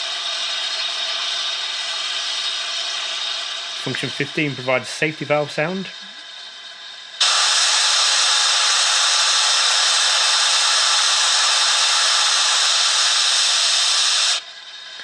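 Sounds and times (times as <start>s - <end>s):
steam safety valve hissing: 0.0s - 6.4s, 7.2s - 14.4s.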